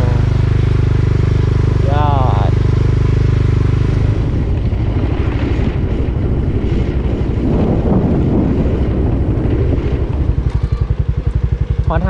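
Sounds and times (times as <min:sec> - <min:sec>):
scooter engine running: 0:00.0 - 0:12.0
wind buffeting microphone: 0:00.0 - 0:12.0.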